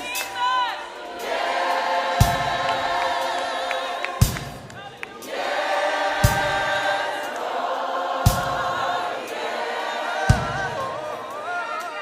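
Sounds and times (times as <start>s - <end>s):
choir singing held chords: 0.0s - 12.0s
sharp beat: 0.0s - 12.0s.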